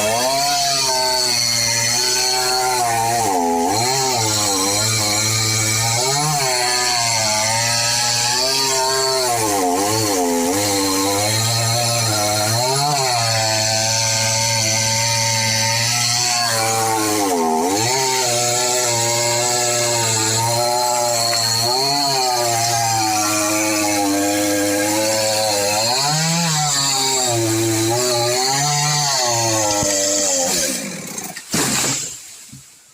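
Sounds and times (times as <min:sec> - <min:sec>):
chainsaw cutting wood: 0:00.0 - 0:32.2.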